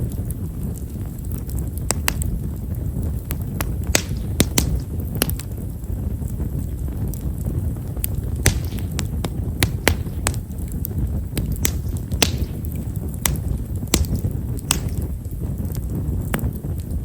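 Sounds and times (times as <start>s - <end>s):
firewood crackling: 0.0s - 17.0s
low rumble of flames: 0.0s - 17.0s.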